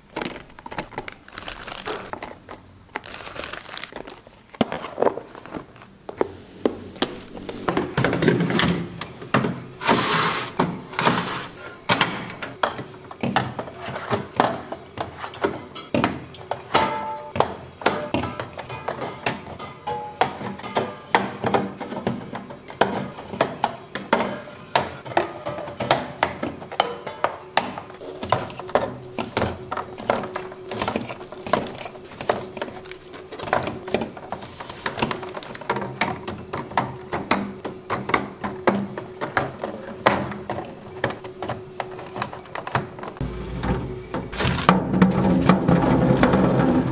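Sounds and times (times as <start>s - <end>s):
cans and bottles clinking: 7.0s - 46.9s.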